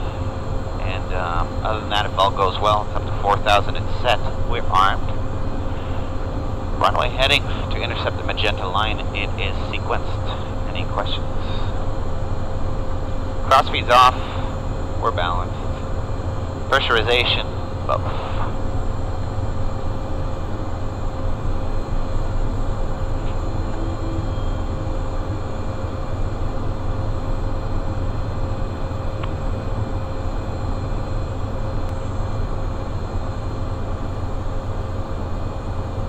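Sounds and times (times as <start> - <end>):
jet engines idling: 0.0 - 36.0.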